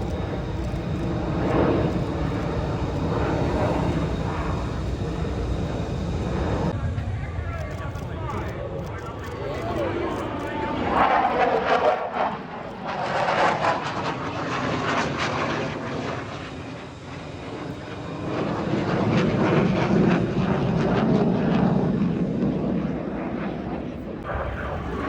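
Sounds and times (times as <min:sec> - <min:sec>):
jet engines roaring overhead: 0:00.0 - 0:25.0.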